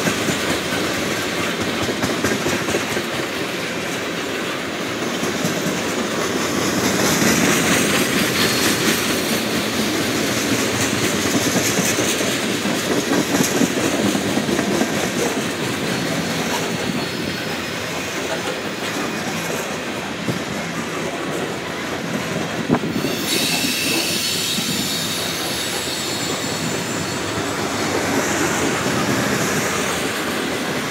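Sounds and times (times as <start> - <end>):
train wheels clacking on rails: 0.0 - 30.9.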